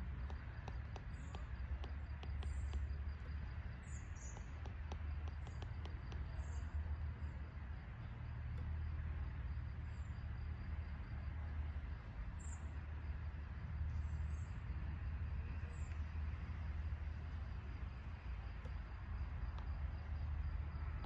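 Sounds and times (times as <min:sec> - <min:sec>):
faint high insect-like hum: 0:00.0 - 0:21.0.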